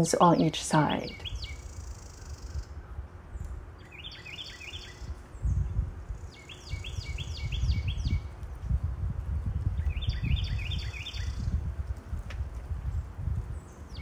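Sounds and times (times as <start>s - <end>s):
wind on microphone: 0.0s - 14.0s
rising songbird chirps: 0.1s - 8.4s, 9.5s - 11.6s, 12.9s - 14.0s.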